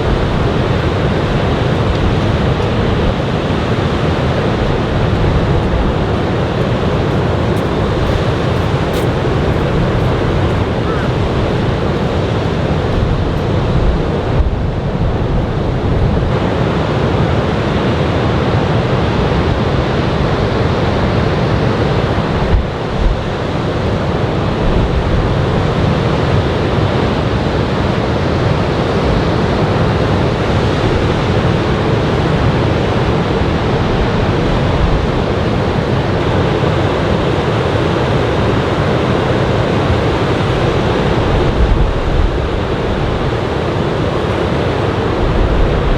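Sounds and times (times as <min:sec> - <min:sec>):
ocean waves breaking on beach: 0:00.0 - 0:45.9
wind on microphone: 0:00.0 - 0:45.9.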